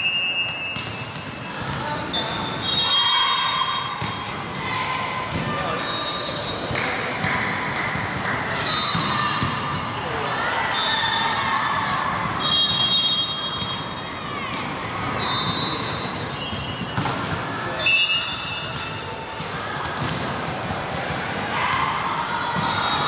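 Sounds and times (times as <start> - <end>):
background chatter: 1.0 - 23.0
players shouting: 1.6 - 23.0.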